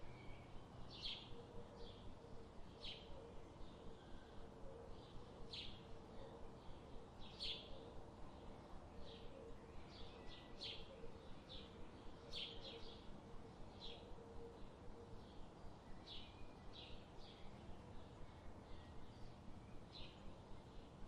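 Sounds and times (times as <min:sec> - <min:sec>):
wild birds chirping: 0:00.0 - 0:21.0.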